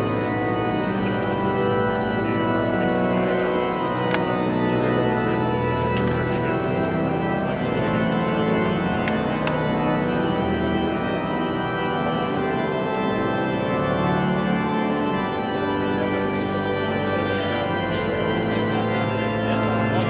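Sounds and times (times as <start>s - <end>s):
pipe organ sustained chords: 0.0s - 20.0s.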